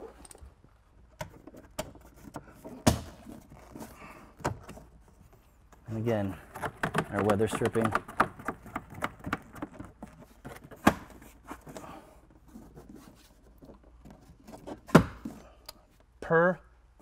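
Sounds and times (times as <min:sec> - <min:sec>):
rubber rubbing and scraping: 0:01.2 - 0:15.6.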